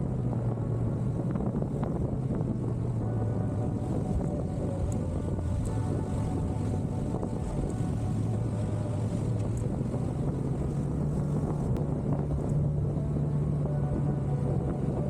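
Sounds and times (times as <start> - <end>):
motorcycle engine running: 0.0 - 15.0
wind noise on microphone: 0.0 - 15.0.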